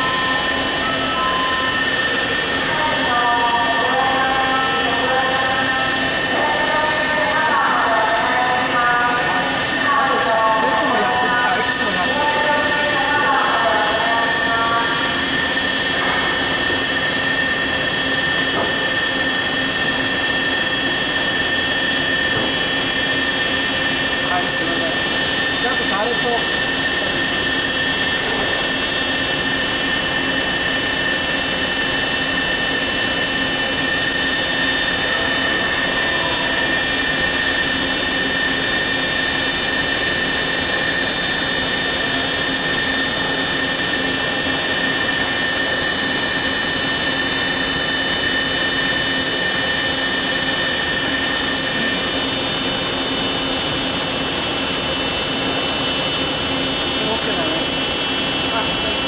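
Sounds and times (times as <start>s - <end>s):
high machine whines: 0.0s - 59.0s
lathe machine hum and whir: 0.0s - 59.0s.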